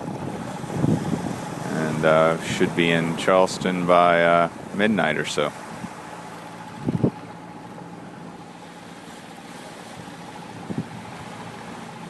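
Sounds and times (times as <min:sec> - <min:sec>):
boat engine humming: 0:00.0 - 0:12.0
wind and water noise: 0:00.0 - 0:12.0.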